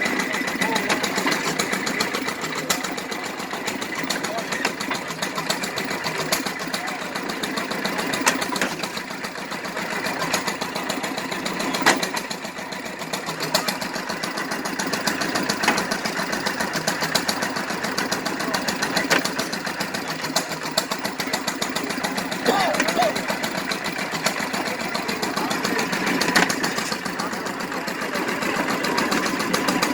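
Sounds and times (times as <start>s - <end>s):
hay baler clattering: 0.0s - 29.9s.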